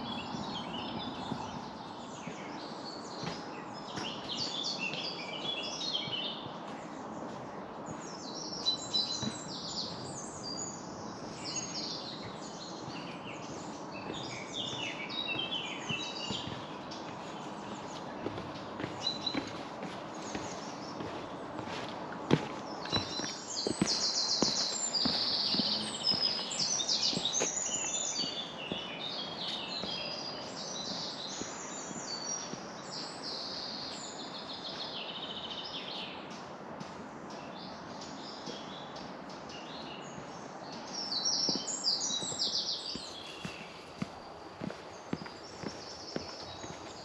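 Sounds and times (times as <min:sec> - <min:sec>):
footsteps on trail: 0:00.0 - 0:36.1, 0:37.6 - 0:47.0
songbirds chirping and trilling: 0:00.0 - 0:47.0
steady outdoor hiss: 0:00.0 - 0:47.0.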